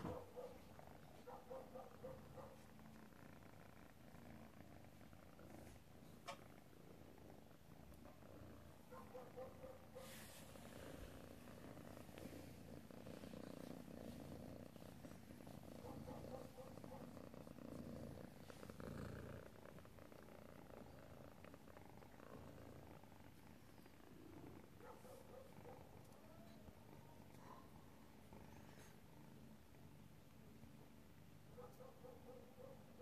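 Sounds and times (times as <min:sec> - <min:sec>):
kittens purring: 0:00.0 - 0:33.0.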